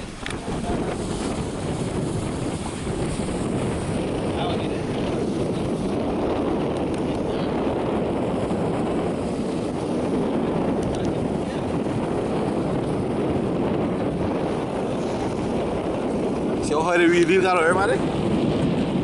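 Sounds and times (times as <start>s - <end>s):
boat running on water: 0.0s - 19.0s
wind buffeting microphone: 0.0s - 19.0s.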